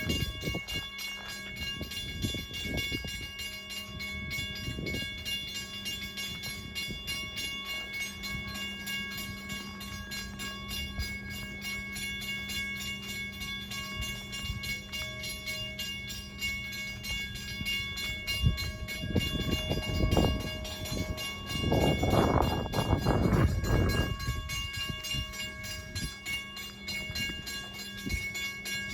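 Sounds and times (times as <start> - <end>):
train electrical whine and hum: 0.0 - 28.9.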